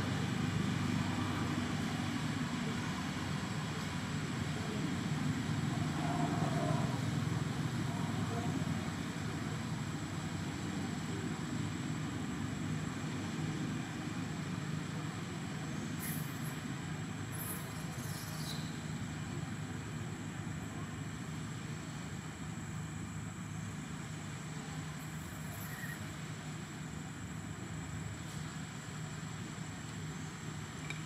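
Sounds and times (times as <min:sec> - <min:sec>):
faint high whine: 0:00.0 - 0:31.0.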